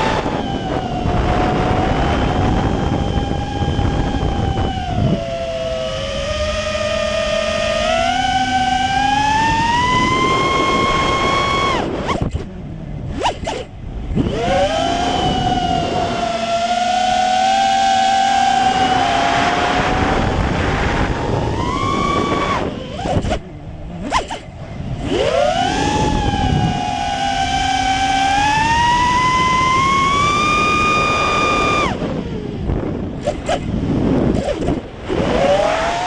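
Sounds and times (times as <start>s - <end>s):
drone motors whining: 0.0s - 36.0s
wind noise: 0.0s - 36.0s.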